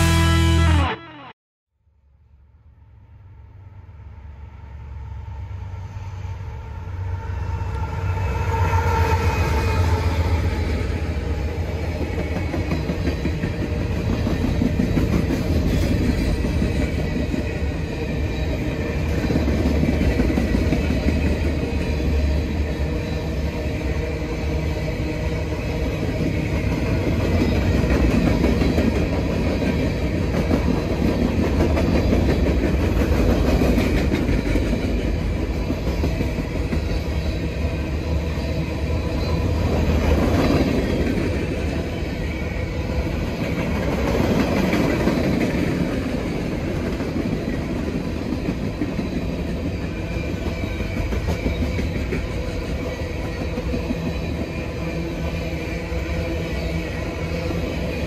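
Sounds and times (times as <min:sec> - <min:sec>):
freight train wheels rumbling: 0:04.0 - 0:58.0.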